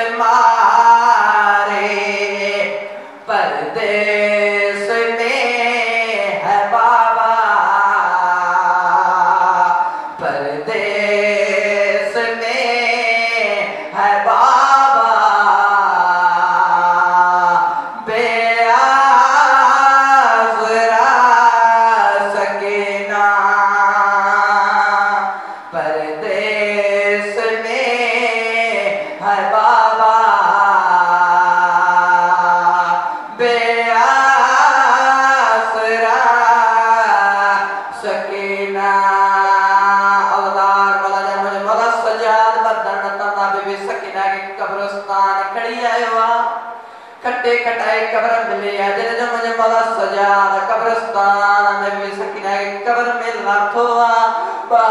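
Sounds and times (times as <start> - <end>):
man chanting a lament: 0.0 - 54.9.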